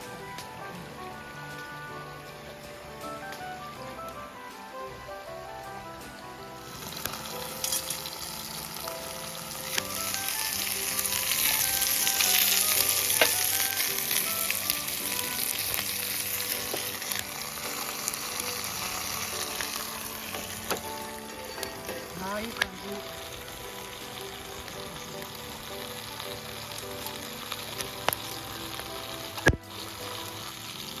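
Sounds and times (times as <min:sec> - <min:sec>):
background music simple melody: 0:00.0 - 0:31.0
food sizzling over campfire: 0:00.0 - 0:31.0.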